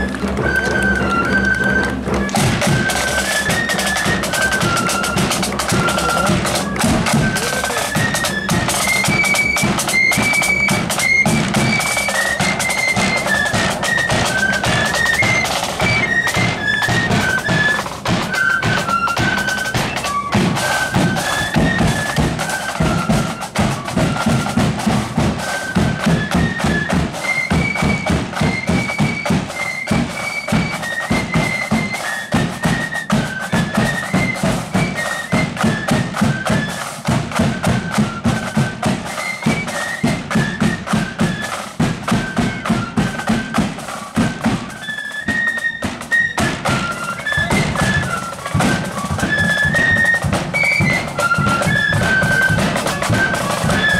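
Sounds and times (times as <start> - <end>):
driving drumbeat: 0.0 - 53.9
flutes playing melody: 0.0 - 53.9.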